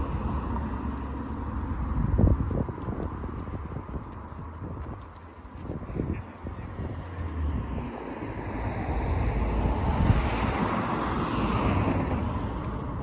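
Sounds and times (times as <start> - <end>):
road vehicle passing by: 0.0 - 13.0
wind rumbling on microphone: 0.0 - 13.0.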